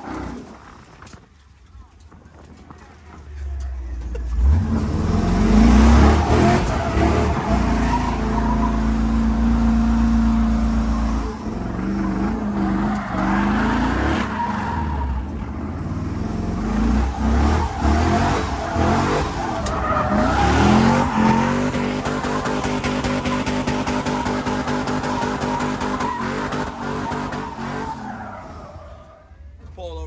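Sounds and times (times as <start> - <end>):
truck engine revving: 3.6 - 29.6
tyres screeching: 4.2 - 29.6.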